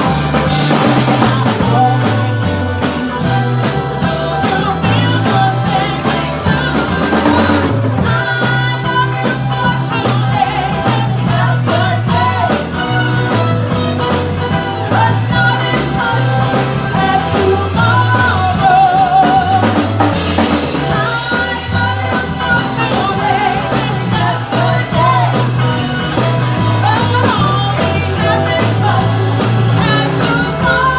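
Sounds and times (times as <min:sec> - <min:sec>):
bass line: 0:00.0 - 0:30.9
drum kit beat: 0:00.0 - 0:30.9.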